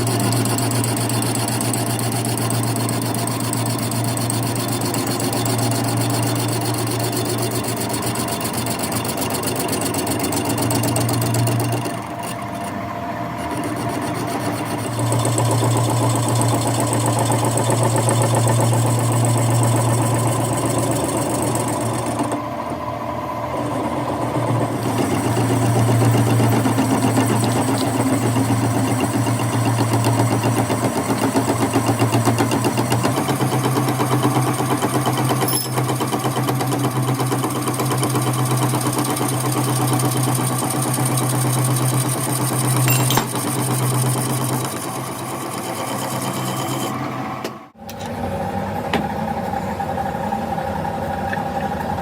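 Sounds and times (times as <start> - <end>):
shop machine buzzing: 0.0 - 52.0.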